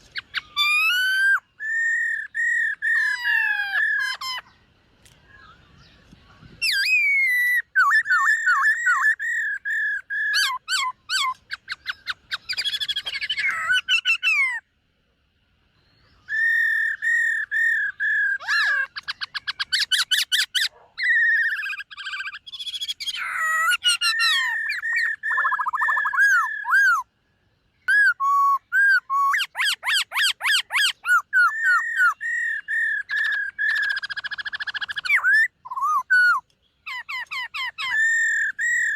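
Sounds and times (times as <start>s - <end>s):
bird singing whistled trills: 0.0s - 14.7s, 15.7s - 38.9s.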